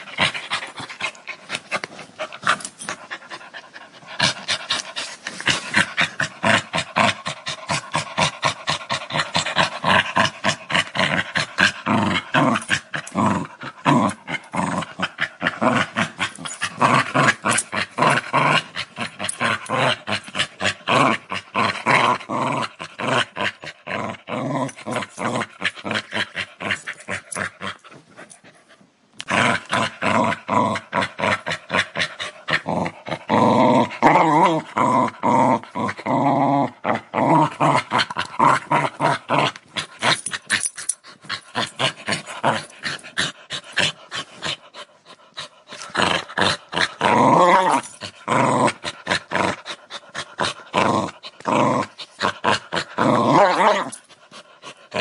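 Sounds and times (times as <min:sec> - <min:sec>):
dog growling: 0:00.0 - 0:28.3, 0:29.2 - 0:55.0.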